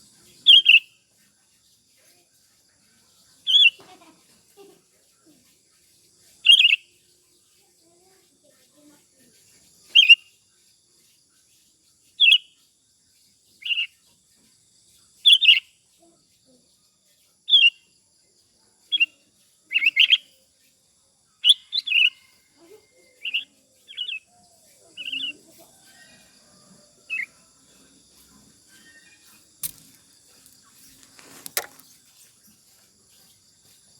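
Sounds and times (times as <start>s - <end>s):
bird chirping song: 0.0s - 33.9s.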